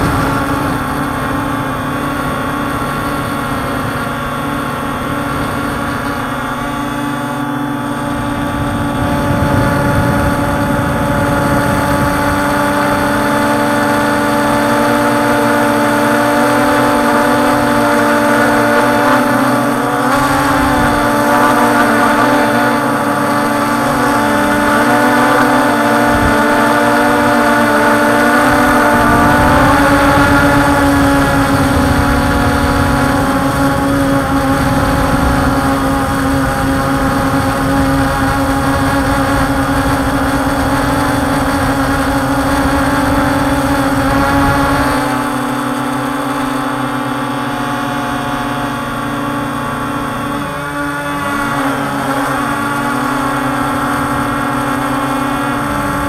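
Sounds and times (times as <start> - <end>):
wind buffeting microphone: 0.0 - 46.1
drone propellers whining: 0.0 - 56.0.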